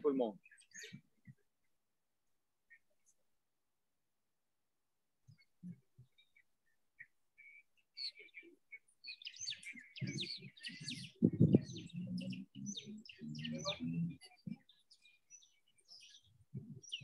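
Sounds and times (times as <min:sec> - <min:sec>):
small birds chirping: 0:00.0 - 0:03.5, 0:05.1 - 0:17.0.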